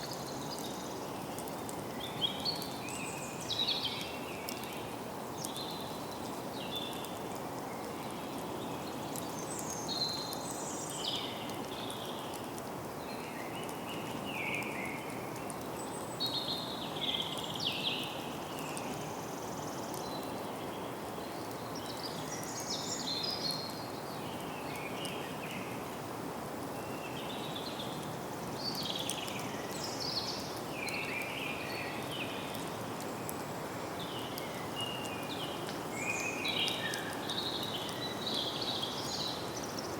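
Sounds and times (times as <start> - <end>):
birds singing and calling: 0.0 - 25.8, 26.8 - 39.9
low background hiss: 0.0 - 39.9.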